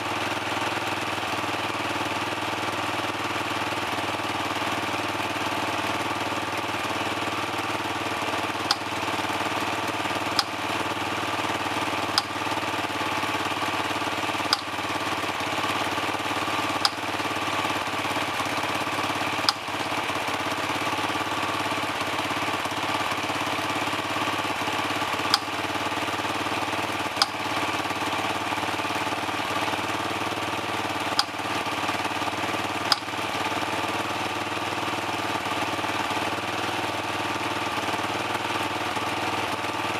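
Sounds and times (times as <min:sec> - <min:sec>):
dirt bike engine idling: 0:00.0 - 0:39.9.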